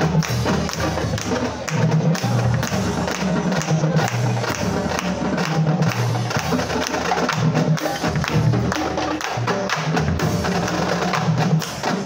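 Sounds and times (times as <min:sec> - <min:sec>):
marching drumline playing: 0:00.0 - 0:12.0.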